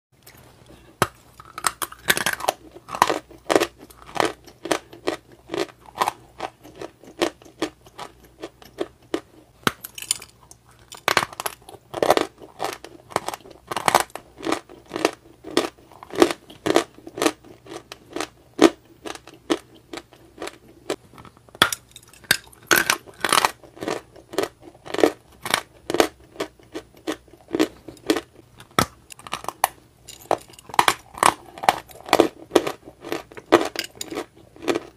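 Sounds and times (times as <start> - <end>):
crisp chewing and crunching: 0.2 - 34.9.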